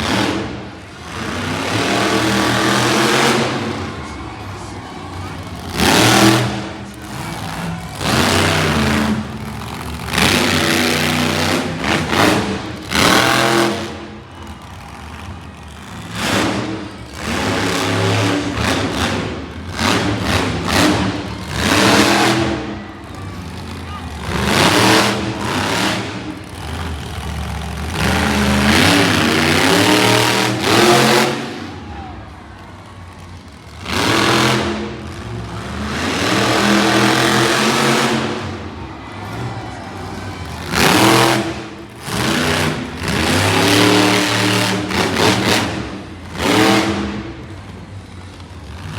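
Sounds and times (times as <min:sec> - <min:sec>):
truck engine revving hard: 0:00.0 - 0:48.9.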